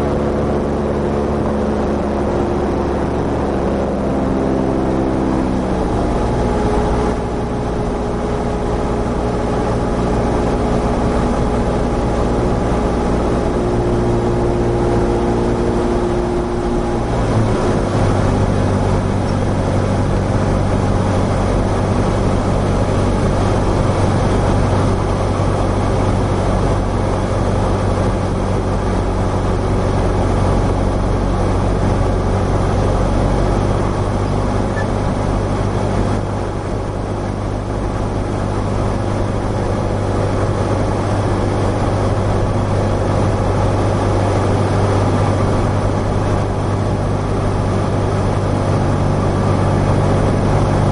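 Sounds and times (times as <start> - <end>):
light aircraft engine droning: 0.0 - 50.9.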